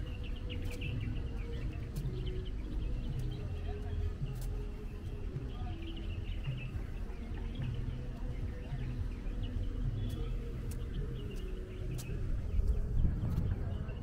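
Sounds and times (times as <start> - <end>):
faint chatter of people: 0.0 - 14.0
steady low rumble: 0.0 - 14.0.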